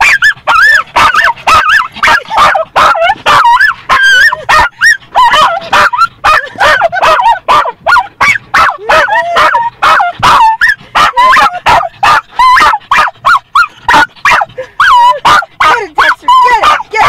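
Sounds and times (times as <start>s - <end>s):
dog barking frantically: 0.0s - 17.0s.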